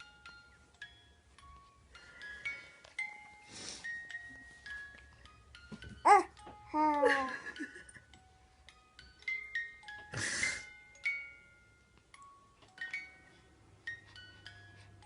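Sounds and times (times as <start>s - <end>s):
tinkling bell-like melody: 0.0s - 15.0s.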